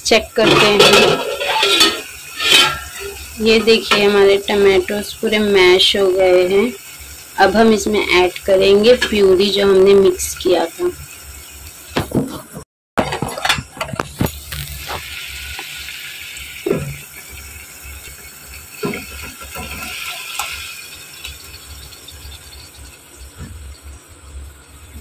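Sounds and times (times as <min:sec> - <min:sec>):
soft sizzle: 0:00.0 - 0:12.2, 0:13.9 - 0:25.0.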